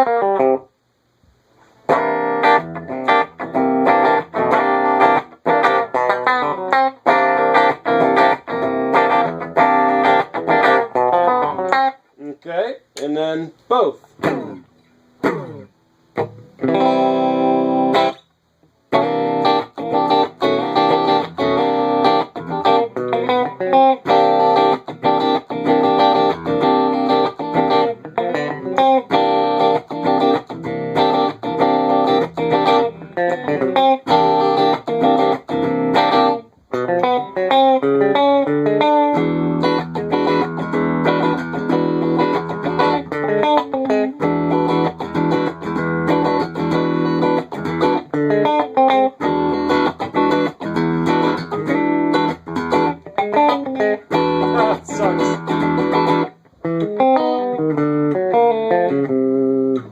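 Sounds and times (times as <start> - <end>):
electric guitar notes and chords: 0.0 - 0.7, 1.8 - 12.0, 14.2 - 18.3, 18.9 - 59.9.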